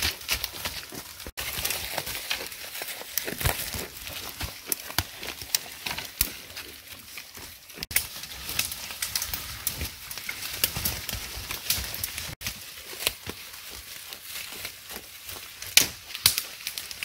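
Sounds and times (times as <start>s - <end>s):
leaves rustling: 0.0s - 17.0s
twigs snapping: 0.0s - 17.0s.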